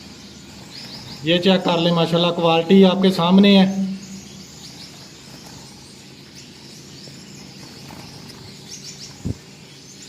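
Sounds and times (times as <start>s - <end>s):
finches chirping: 0.0s - 10.0s
steady low hum: 0.0s - 10.0s.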